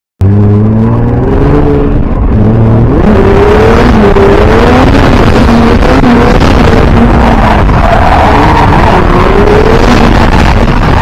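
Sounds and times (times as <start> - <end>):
car engine revving: 0.2 - 11.0.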